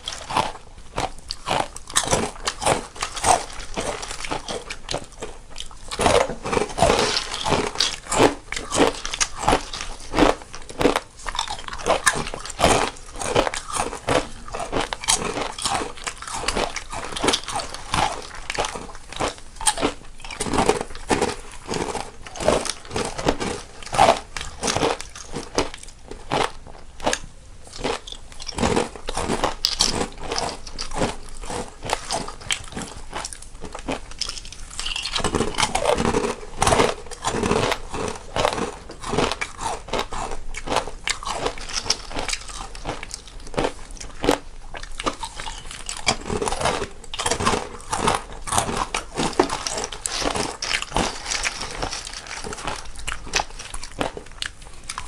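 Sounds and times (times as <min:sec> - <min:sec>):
people eating crunchy snacks: 0:00.0 - 0:55.0.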